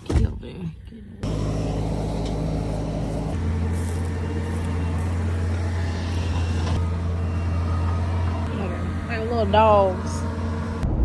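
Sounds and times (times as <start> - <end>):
truck engine and road drone: 1.2 - 11.0.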